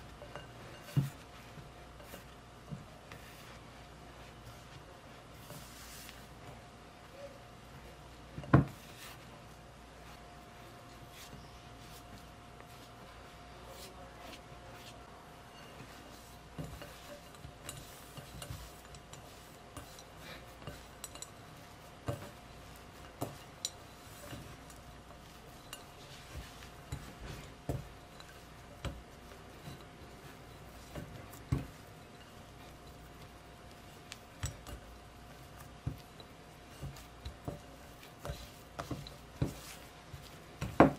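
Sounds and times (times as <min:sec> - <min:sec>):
dough rubbing by hand: 0:00.0 - 0:40.9
faint steady hum: 0:00.0 - 0:40.9.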